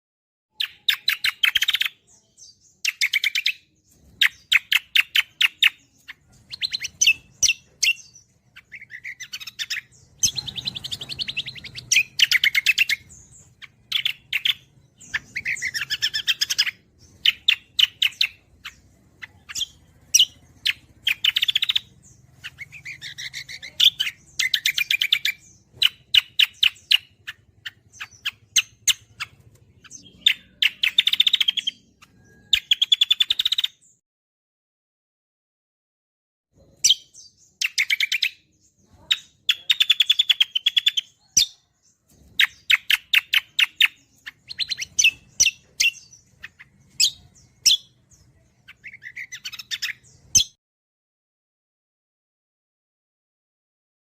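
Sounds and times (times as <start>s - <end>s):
bird singing rapid notes: 0.5s - 34.0s, 36.6s - 50.6s.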